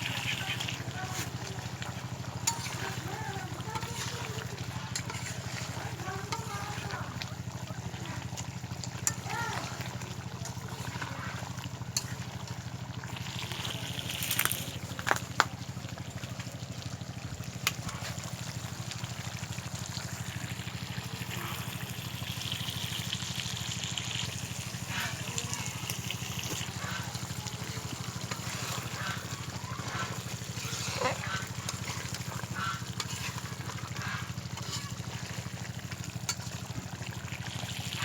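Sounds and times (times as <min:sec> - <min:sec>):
curry bubbling in a pot: 0:00.0 - 0:38.0.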